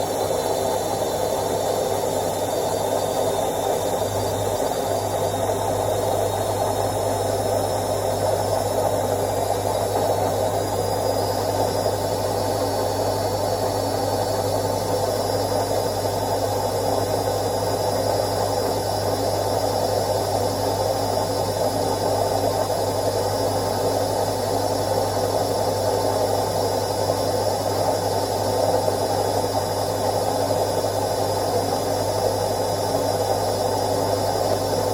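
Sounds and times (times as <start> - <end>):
washing machine running: 0.0 - 34.9.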